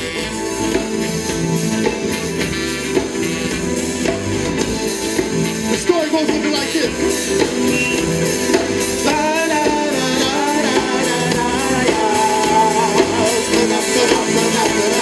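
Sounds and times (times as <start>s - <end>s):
live funk band playing: 0.0s - 15.0s.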